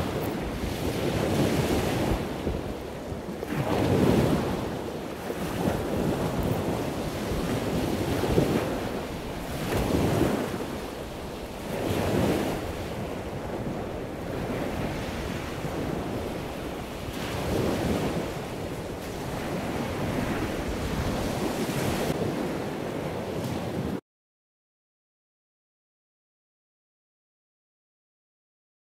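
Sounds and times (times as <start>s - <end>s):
surf breaking on a beach: 0.0s - 24.0s
wind buffeting the microphone: 0.0s - 24.0s.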